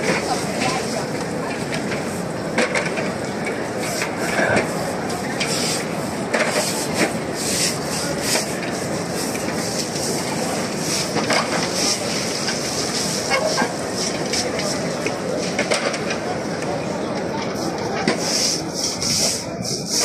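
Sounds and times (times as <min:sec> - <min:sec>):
crowd walking and talking: 0:00.0 - 0:20.0.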